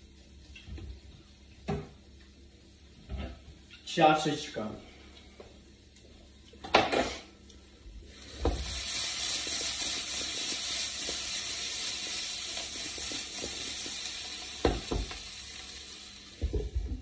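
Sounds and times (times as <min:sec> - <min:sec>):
sprouts sizzling in a frying pan: 0:00.0 - 0:04.4, 0:05.3 - 0:17.0.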